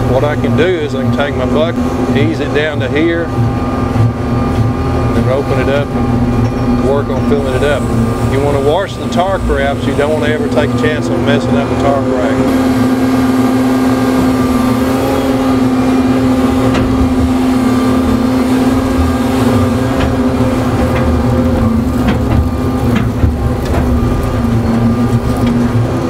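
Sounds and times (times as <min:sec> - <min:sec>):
excavator engine humming: 0:00.0 - 0:26.0.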